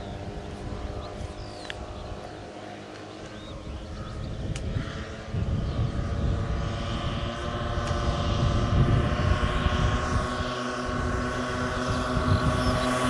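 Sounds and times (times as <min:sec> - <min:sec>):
model aircraft propeller humming: 0:00.0 - 0:13.0
wind rumble on microphone: 0:00.0 - 0:13.0.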